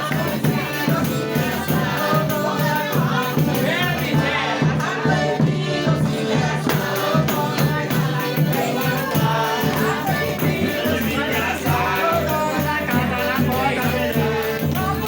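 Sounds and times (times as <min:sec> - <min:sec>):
shaken percussion beat: 0:00.0 - 0:15.0
voices singing folk song: 0:00.0 - 0:15.0.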